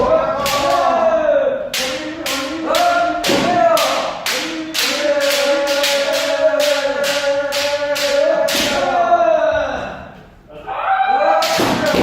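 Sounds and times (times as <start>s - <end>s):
long drawn out shouts: 0.0s - 12.0s.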